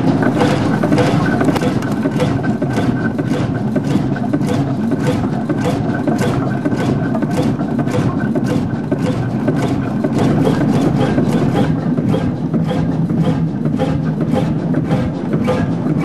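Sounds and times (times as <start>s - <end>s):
single-cylinder engine beating slowly: 0.0s - 16.0s.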